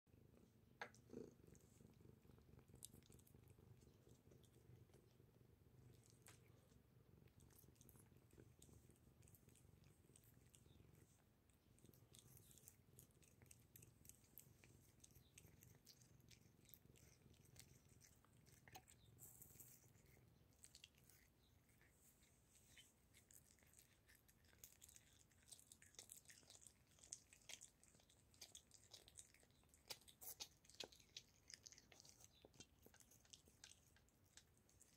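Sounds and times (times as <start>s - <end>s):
cat purring: 0.1s - 34.9s
cat licking and chewing meat: 0.2s - 34.9s.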